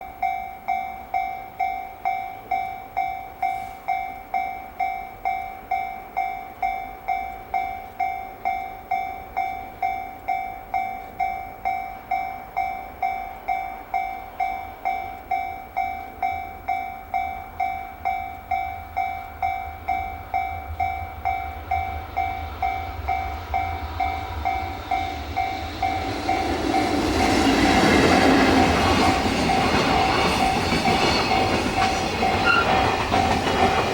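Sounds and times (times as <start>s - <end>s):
freight train rumble: 0.0s - 33.9s
level-crossing alarm ringing: 0.0s - 33.9s.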